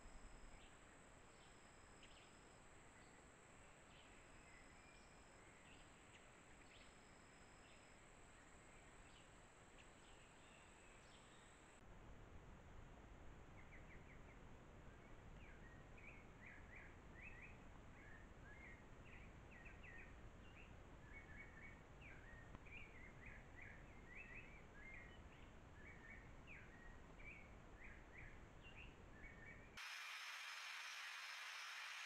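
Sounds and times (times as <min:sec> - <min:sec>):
faint bird chirping: 0:00.0 - 0:11.8, 0:13.5 - 0:32.0
low background hiss: 0:00.0 - 0:32.0.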